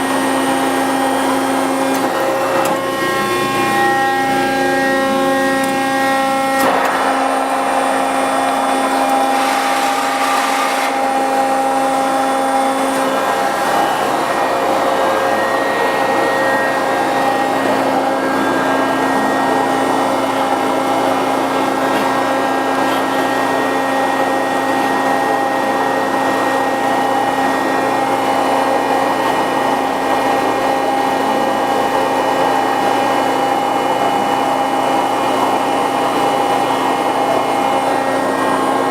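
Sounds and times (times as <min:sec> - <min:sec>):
hydraulic pump droning hum: 0:00.0 - 0:38.9.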